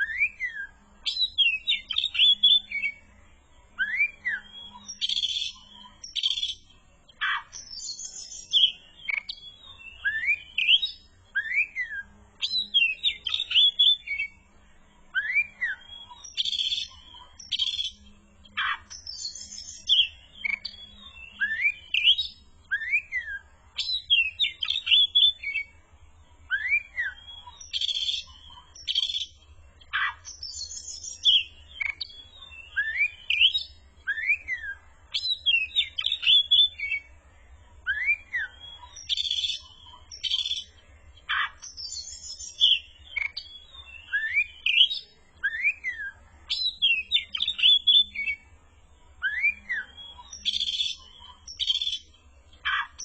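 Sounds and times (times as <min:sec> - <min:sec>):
songbird whistling and buzzing: 0:00.0 - 0:25.8, 0:26.4 - 0:37.2, 0:37.8 - 0:53.0.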